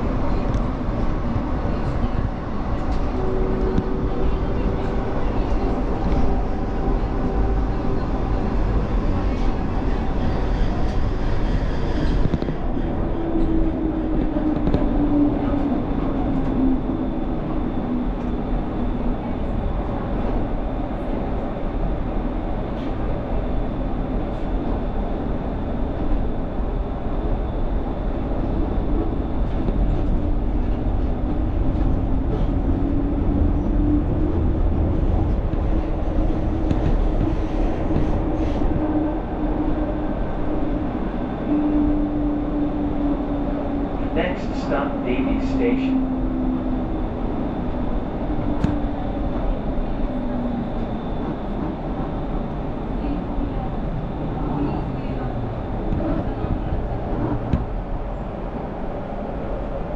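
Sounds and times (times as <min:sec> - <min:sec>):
tram motor hum: 0:00.0 - 0:59.9
tram wheels rumbling on rails: 0:00.0 - 0:59.9.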